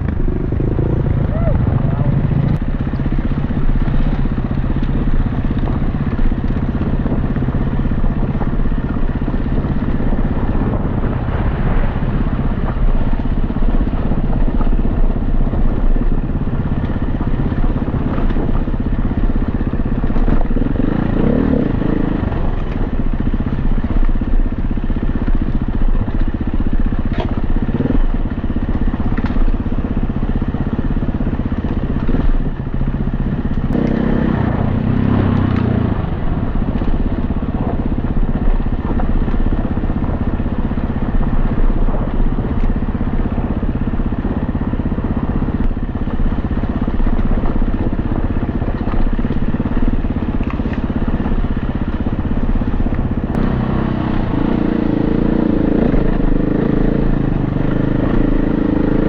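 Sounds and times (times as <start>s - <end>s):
dirt bike engine revving: 0.0s - 23.9s, 24.9s - 45.6s, 46.2s - 59.0s.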